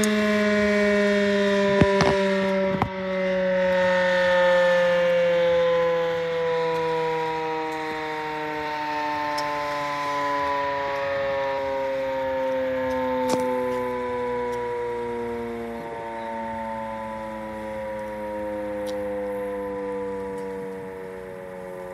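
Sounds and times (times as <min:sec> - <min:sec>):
warning siren winding down: 0:00.0 - 0:21.9.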